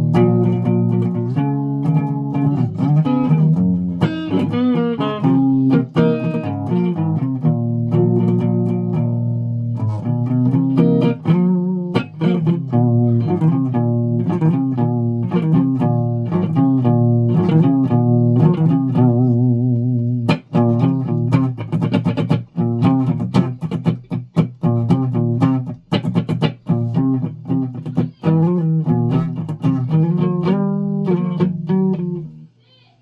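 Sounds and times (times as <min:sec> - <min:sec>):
guitar notes: 0:00.0 - 0:32.6.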